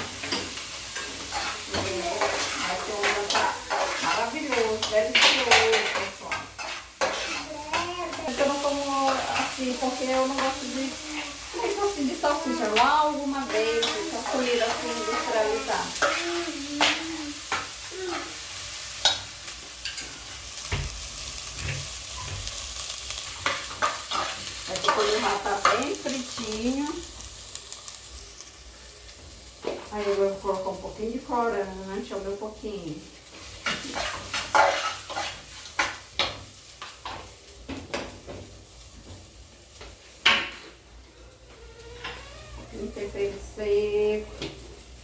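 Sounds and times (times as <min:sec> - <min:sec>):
sausage sizzling in a pan: 0:00.0 - 0:45.0.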